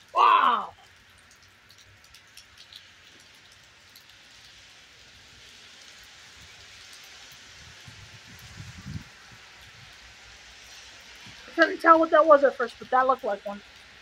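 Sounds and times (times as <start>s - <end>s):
light rain hiss: 0.0s - 14.0s
raindrop ticks: 0.0s - 14.0s.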